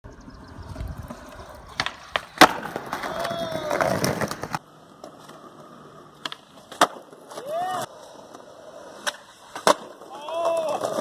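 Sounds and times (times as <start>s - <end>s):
skateboard wheels rolling on concrete: 0.1s - 11.0s
skateboard clacks: 1.0s - 11.0s.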